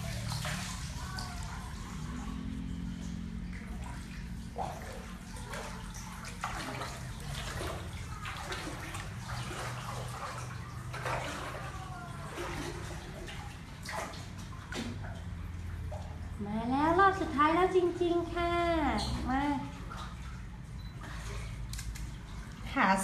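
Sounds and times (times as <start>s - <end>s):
water splashing in a pool: 0.0s - 23.0s.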